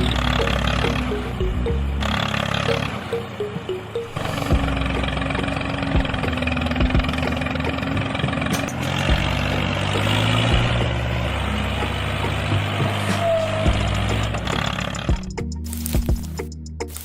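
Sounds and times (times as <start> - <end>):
small engine running: 0.0 - 15.3.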